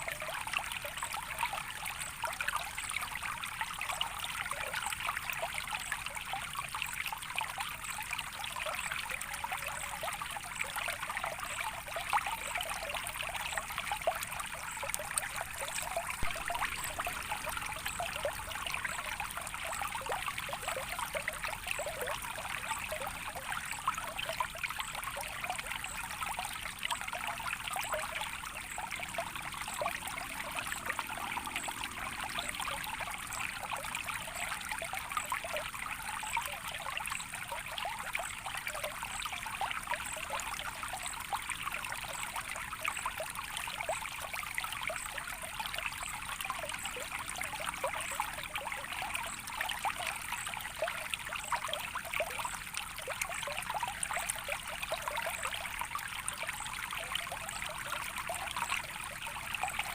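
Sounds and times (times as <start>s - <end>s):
small water splashes: 0.0s - 59.9s
stream trickling and bubbling: 0.0s - 59.9s.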